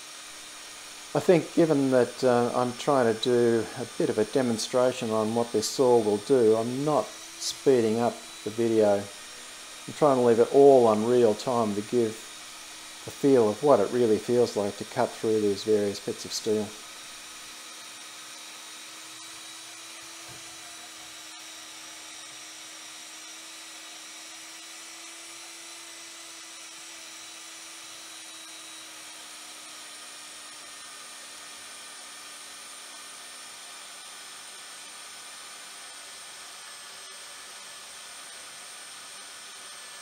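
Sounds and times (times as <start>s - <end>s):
bandsaw cutting metal with whine: 0.0s - 40.0s.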